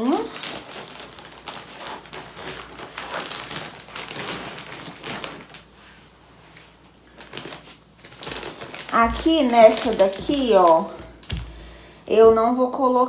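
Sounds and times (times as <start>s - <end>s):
clothes rustling and crinkling: 0.0s - 12.7s.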